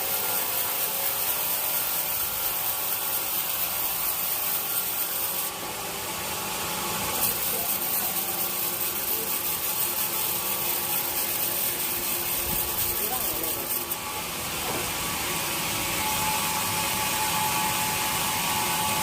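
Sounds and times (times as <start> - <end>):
sawmill saw cutting wood: 0.0 - 19.0.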